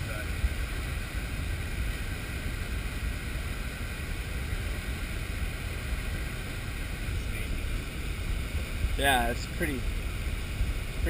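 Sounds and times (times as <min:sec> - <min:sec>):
muffled waterfall rumble: 0:00.0 - 0:11.0.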